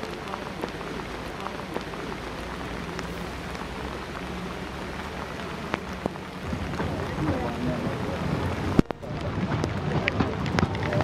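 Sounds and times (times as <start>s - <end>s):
low rumble: 0.0s - 11.0s
steady rain falling: 0.0s - 11.0s
ticks of single raindrops: 0.0s - 11.0s.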